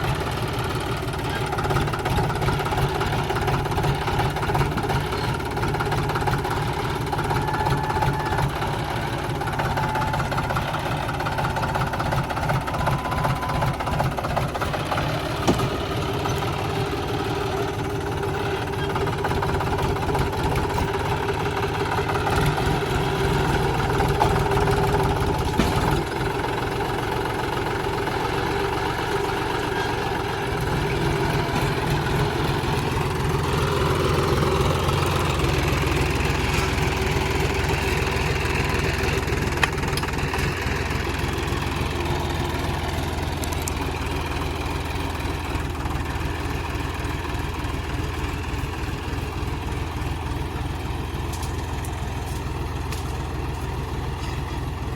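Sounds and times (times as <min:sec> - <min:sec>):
diesel engine rumbling: 0:00.0 - 0:54.9.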